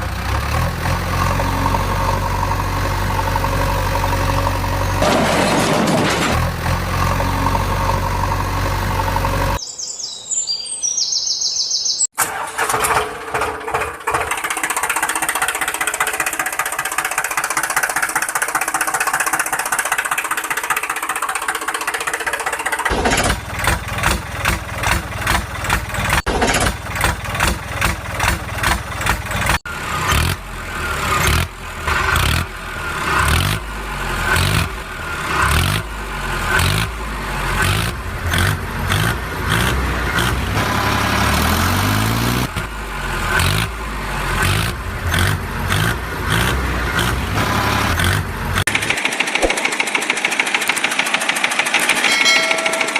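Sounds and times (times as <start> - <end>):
heavy diesel engine under load: 0.0 - 9.6, 12.1 - 52.9.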